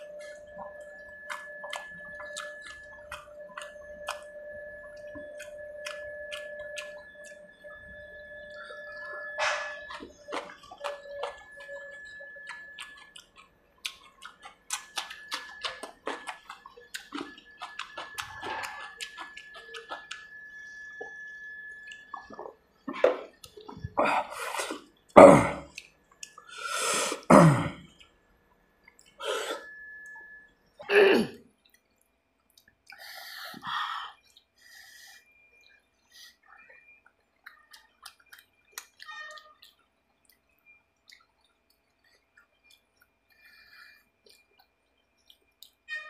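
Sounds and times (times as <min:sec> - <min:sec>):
wet chewing and mouth clicks: 0:00.0 - 0:21.2, 0:21.8 - 0:28.2, 0:31.6 - 0:45.9.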